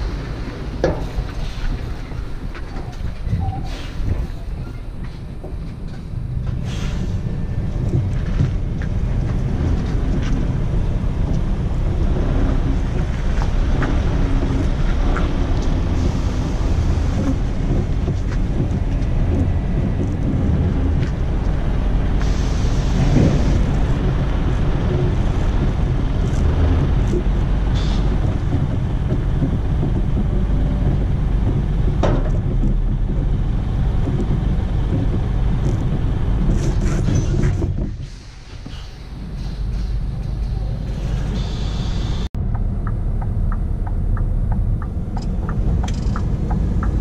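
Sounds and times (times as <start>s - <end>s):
truck diesel engine rumbling: 0.0s - 47.0s.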